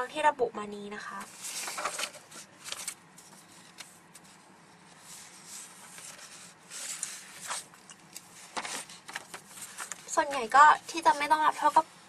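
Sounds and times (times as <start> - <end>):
paper sliding and rustling: 1.2 - 11.8.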